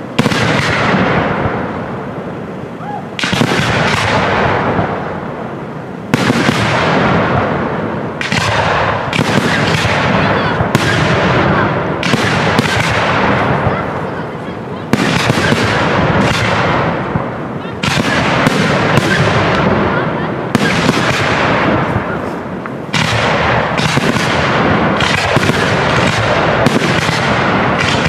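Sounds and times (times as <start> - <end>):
fireworks booming with echo: 0.0 - 28.0.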